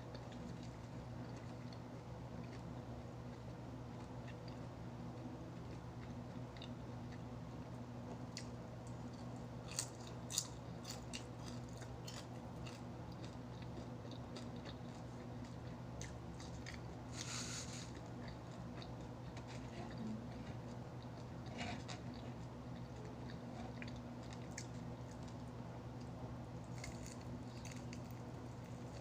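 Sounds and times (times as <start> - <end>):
steady low hum: 0.0 - 29.0
person chewing crispy chicken: 0.1 - 29.0.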